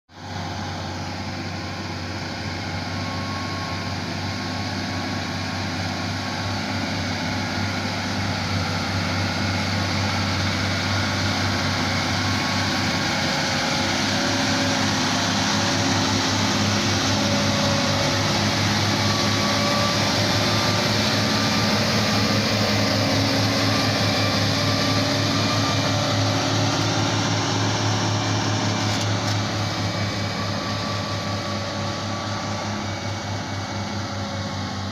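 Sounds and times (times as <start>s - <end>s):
truck diesel engine running: 0.1s - 34.9s.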